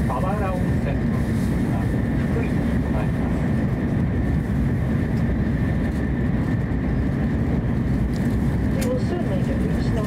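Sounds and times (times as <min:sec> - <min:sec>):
train cabin low rumble: 0:00.0 - 0:10.0.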